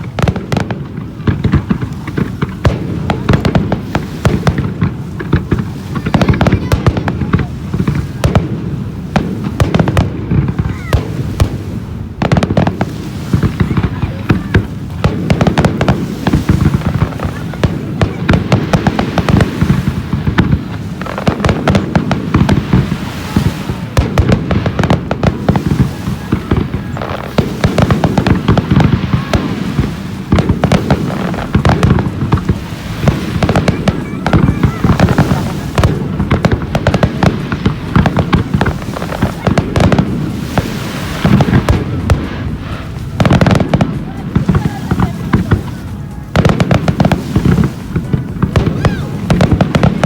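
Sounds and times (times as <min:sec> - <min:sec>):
firework bangs: 0:00.0 - 0:50.0.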